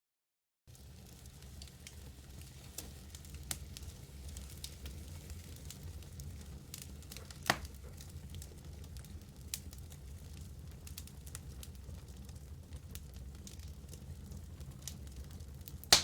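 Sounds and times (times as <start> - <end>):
logs crackling and popping: 0.7 - 16.0
low rumble of flame: 0.7 - 16.0.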